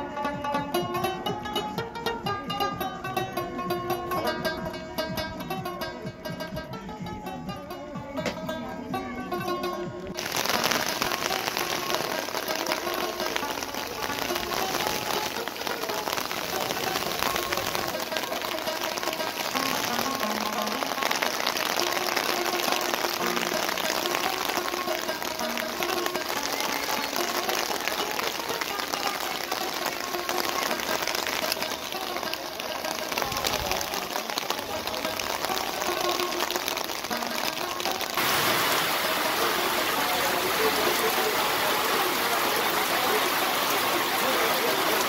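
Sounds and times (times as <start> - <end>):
steady rain patter: 0.0 - 7.8, 9.3 - 45.0.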